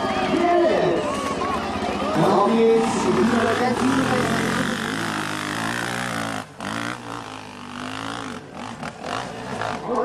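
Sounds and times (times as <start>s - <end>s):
motocross bike engine revving: 1.6s - 10.0s.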